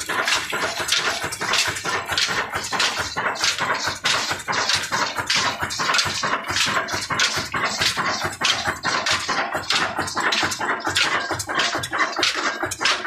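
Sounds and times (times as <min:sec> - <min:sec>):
diesel engine driving flour mill: 0:00.0 - 0:13.0.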